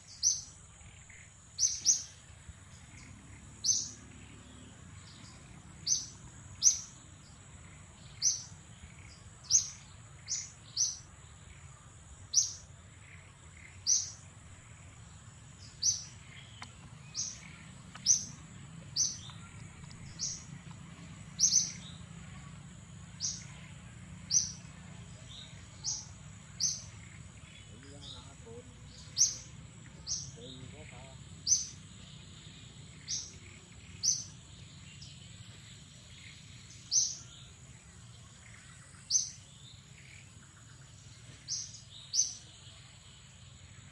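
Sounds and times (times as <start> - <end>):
bird chirping: 0.0 - 43.9.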